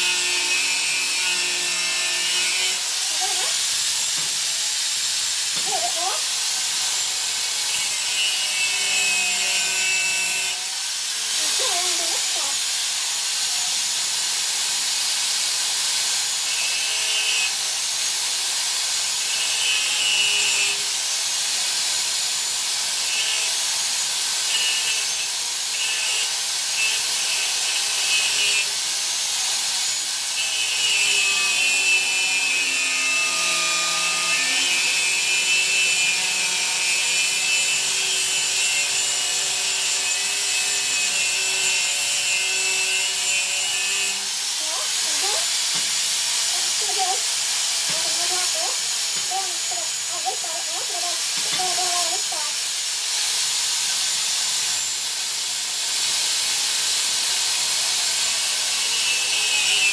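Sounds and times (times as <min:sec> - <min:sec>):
angle grinder cutting steel: 0:00.0 - 0:59.9.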